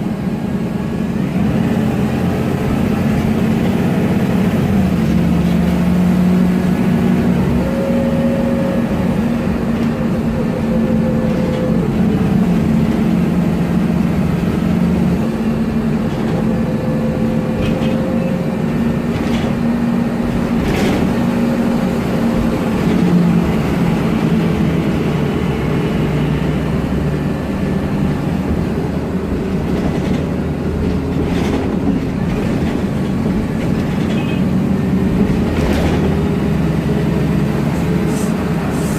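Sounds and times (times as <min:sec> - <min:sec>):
bus engine humming: 0:00.0 - 0:38.9.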